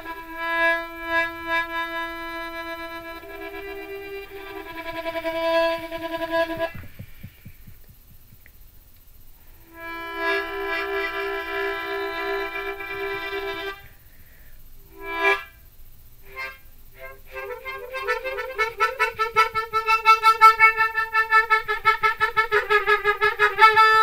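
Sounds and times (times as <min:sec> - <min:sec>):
harmonica chords: 0:00.0 - 0:08.4, 0:09.5 - 0:24.0.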